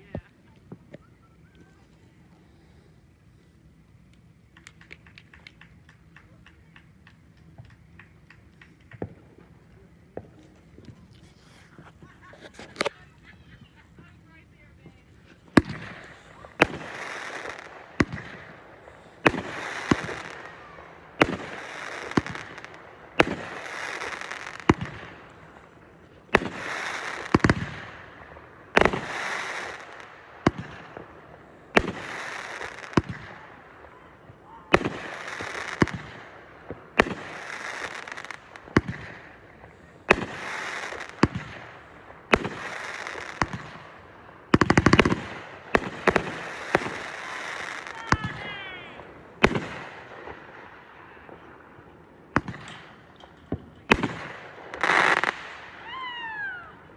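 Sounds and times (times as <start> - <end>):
fireworks firing: 0.0 - 56.9.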